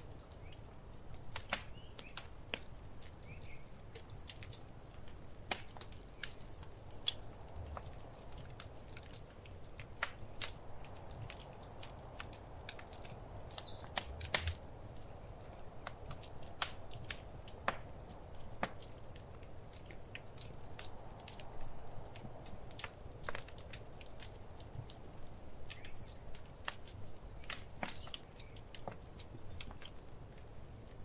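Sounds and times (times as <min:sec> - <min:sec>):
fireplace fire crackling: 0:00.0 - 0:31.0.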